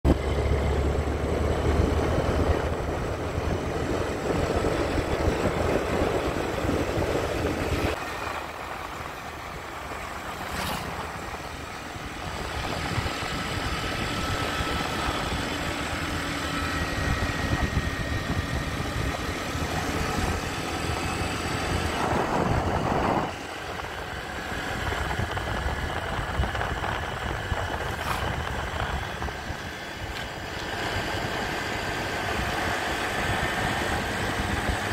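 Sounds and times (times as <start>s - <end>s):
wind and road noise: 0.0s - 34.9s
motorbike engine running: 0.1s - 34.9s.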